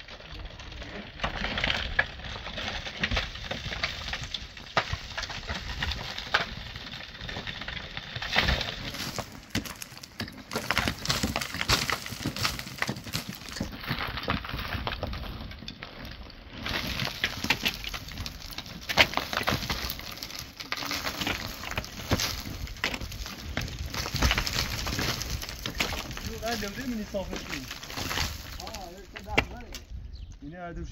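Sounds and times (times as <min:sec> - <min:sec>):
clods and rubble falling: 0:00.0 - 0:30.0
shovel scraping and chopping dirt: 0:00.8 - 0:29.8.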